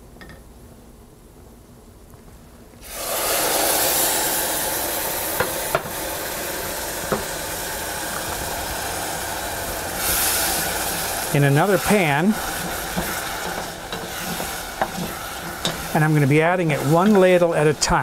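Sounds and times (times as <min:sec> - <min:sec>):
stock hissing and sizzling in pot: 0:02.8 - 0:18.0.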